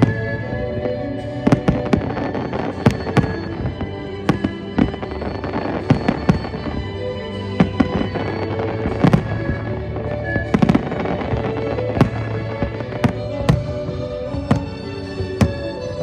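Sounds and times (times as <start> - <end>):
fireworks bursting: 0.0 - 16.0
music: 0.0 - 16.0.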